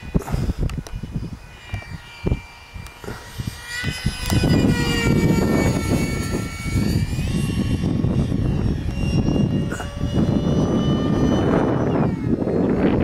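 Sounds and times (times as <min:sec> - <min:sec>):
electric ducted fan whine: 0:00.0 - 0:13.0
wind buffeting microphone: 0:00.0 - 0:13.0.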